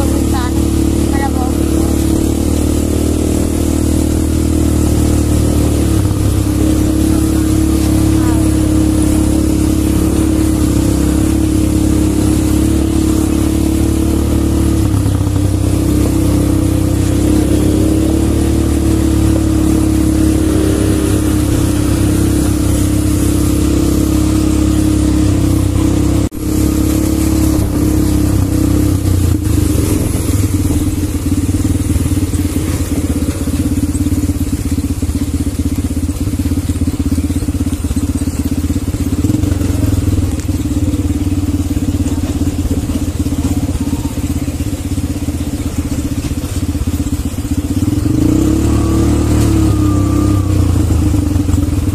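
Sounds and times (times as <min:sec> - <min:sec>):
quad bike engines running: 0:00.0 - 0:51.9.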